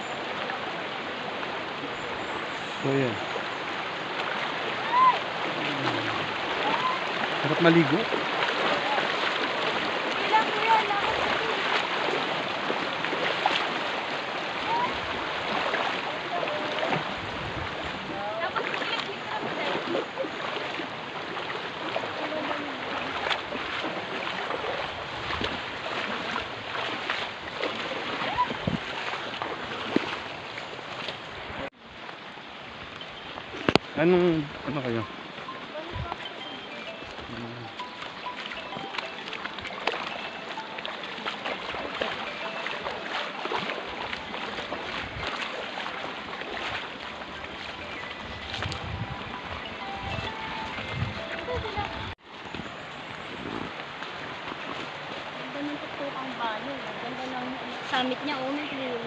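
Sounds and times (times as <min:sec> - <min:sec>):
flowing river water: 0:00.0 - 0:59.0
small ticks and splashes: 0:00.2 - 0:59.0.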